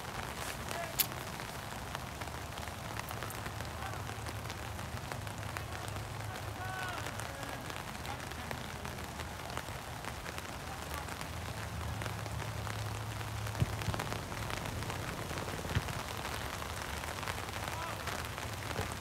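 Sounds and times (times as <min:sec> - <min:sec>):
rain pattering: 0:00.0 - 0:19.0.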